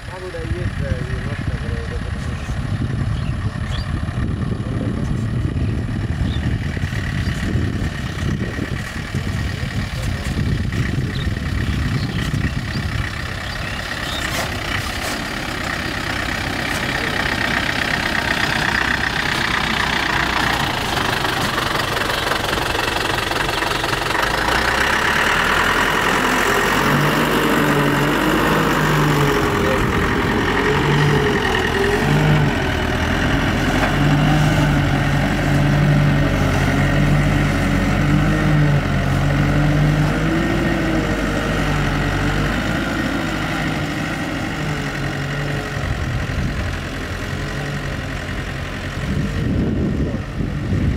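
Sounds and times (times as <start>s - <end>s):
dump truck diesel engine: 0.0s - 50.9s.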